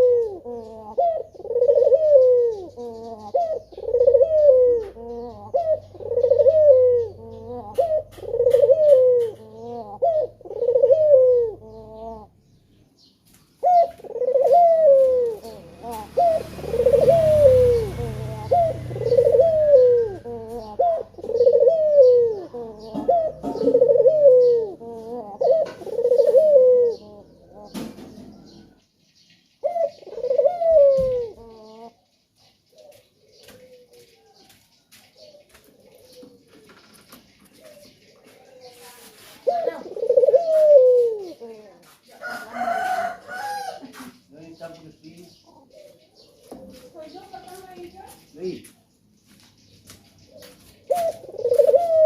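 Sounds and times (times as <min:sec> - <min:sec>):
dove cooing: 0:00.0 - 0:12.6, 0:13.5 - 0:28.8, 0:29.6 - 0:32.0, 0:32.7 - 0:34.6, 0:35.2 - 0:44.6, 0:50.3 - 0:52.0.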